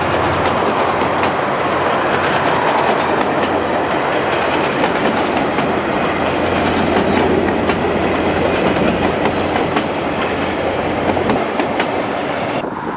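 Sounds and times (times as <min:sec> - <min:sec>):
wheels clacking over rail joints: 0:00.0 - 0:12.6
train wheels rumbling on rails: 0:00.0 - 0:12.9.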